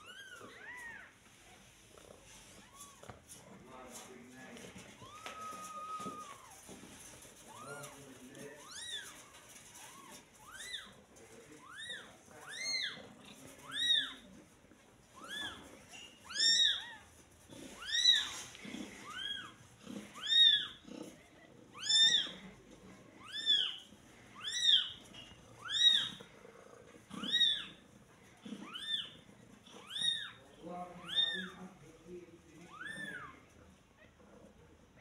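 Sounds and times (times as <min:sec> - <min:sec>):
kittens mewing: 0:04.7 - 0:31.6, 0:32.7 - 0:34.3.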